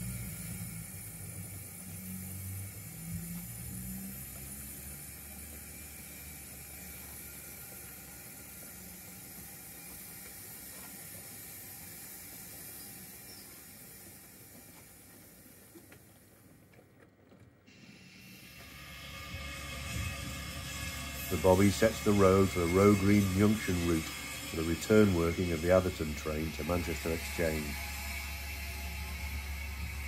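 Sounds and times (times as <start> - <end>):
model train wheels on track: 0.0 - 30.0.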